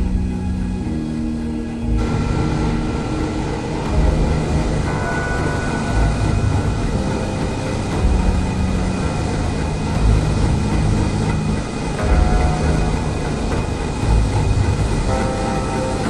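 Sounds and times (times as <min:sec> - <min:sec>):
ship engines deep rumble: 0:00.0 - 0:16.0.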